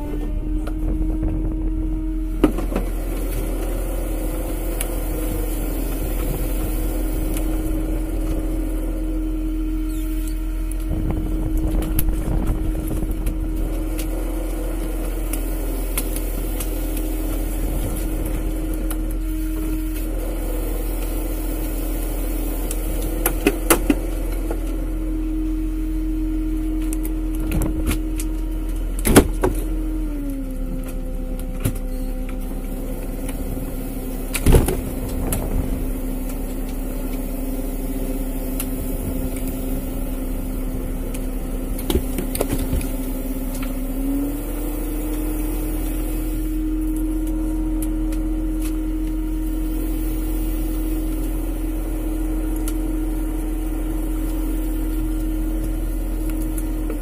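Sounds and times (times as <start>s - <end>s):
hydraulic hauler humming: 0.0s - 57.0s.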